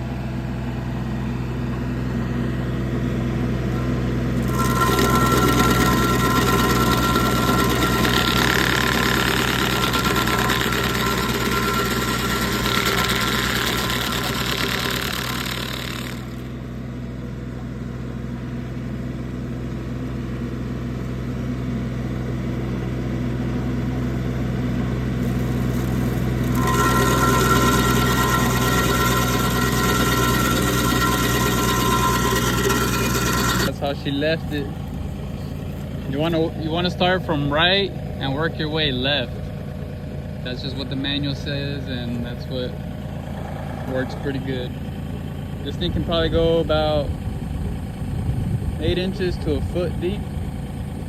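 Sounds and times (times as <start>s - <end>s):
engine running steadily: 0.0s - 51.0s
grinder wheel rushing and whining: 2.1s - 17.1s, 23.4s - 51.0s.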